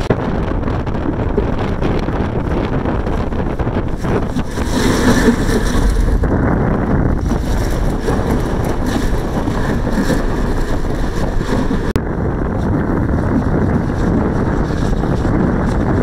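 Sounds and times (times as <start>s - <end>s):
train running noise: 0.0s - 16.0s
wind buffeting microphone: 0.0s - 16.0s.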